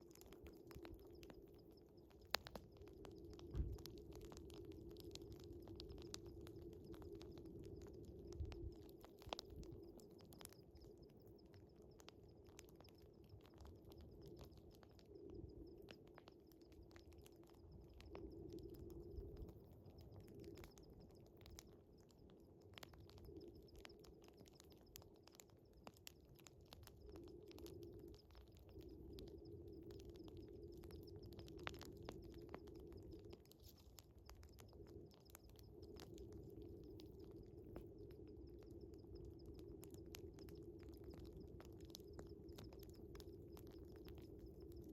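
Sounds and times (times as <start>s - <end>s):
crickets chirring: 0.0s - 44.9s
wood fire crackling and popping: 0.0s - 44.9s.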